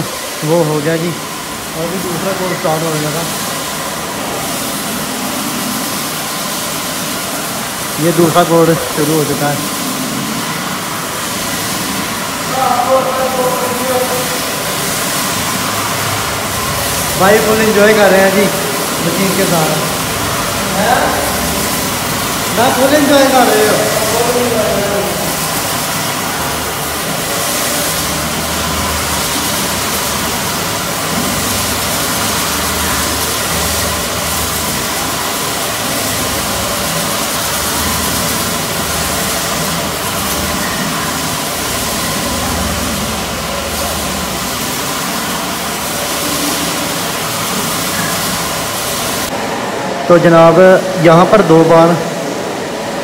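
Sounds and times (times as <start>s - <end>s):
floor grinding machine humming: 0.0s - 53.0s.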